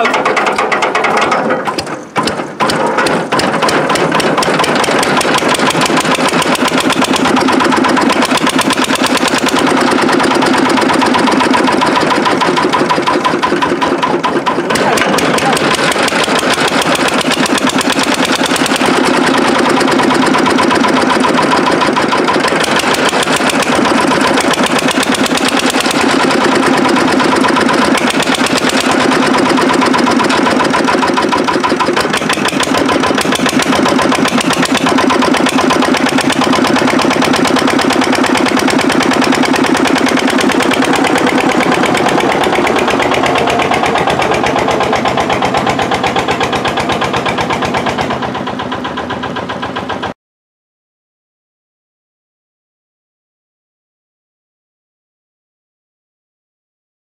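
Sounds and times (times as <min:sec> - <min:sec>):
single-cylinder diesel engine running: 0:00.0 - 0:50.2.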